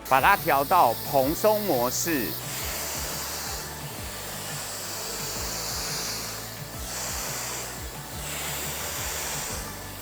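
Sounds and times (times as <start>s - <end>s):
background music beat: 0.0s - 10.0s
hair dryer blowing: 0.0s - 10.0s.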